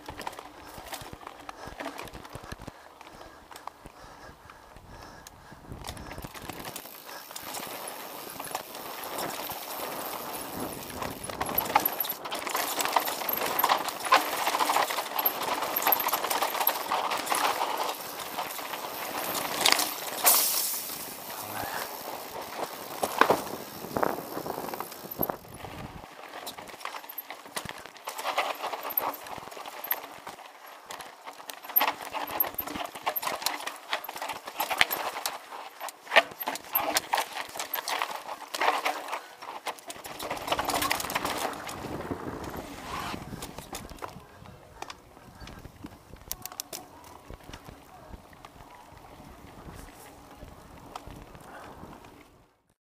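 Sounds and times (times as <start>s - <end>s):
bike rattling over bumps: 0.0s - 52.5s
bike tyres on dirt and stones: 0.0s - 52.8s.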